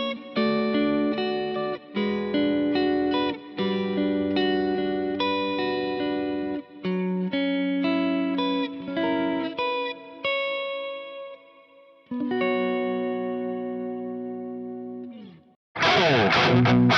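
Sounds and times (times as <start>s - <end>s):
electric guitar playing: 0.0s - 16.9s.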